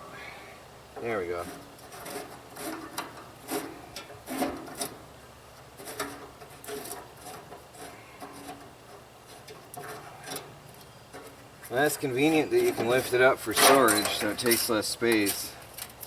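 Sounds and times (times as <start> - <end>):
scraping and rubbing: 1.0 - 15.5.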